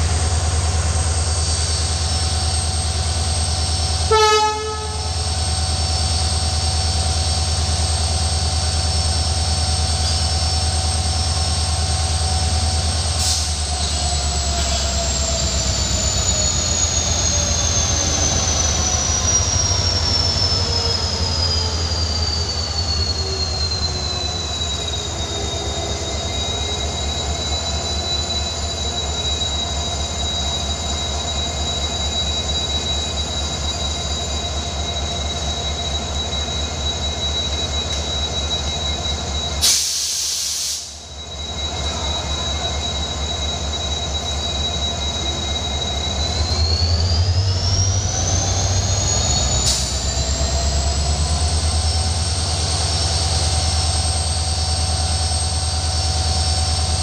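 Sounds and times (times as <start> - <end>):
diesel locomotive rumble: 0.0 - 57.0.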